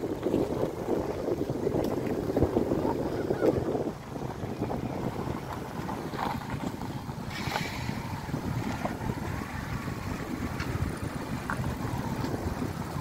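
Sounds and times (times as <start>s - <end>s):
motor scooters running slowly: 0.0s - 13.0s
wind buffeting microphone: 0.0s - 13.0s.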